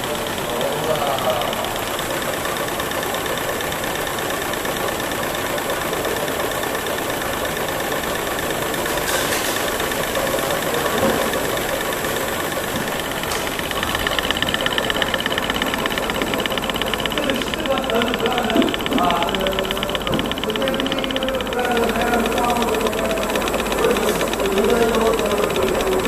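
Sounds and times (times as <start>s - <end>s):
fast even rattle: 0.0s - 26.0s
machine whirring with high tone: 0.0s - 26.0s.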